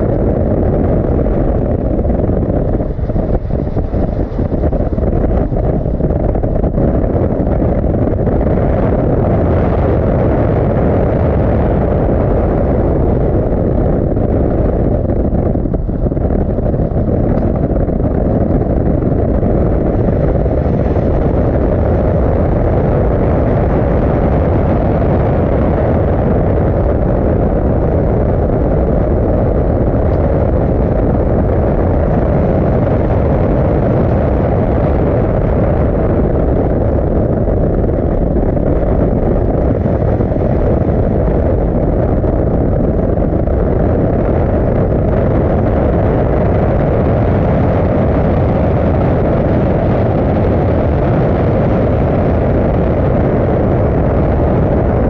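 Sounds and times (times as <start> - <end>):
wind rush and tyre spray: 0.0 - 55.0.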